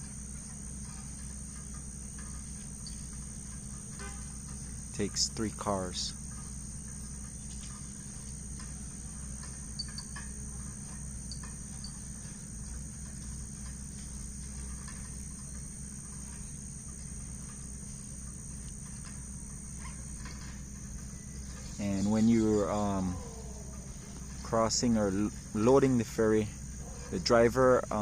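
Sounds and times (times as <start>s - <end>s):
insects buzzing: 0.0s - 28.0s
low steady rumble: 0.0s - 28.0s.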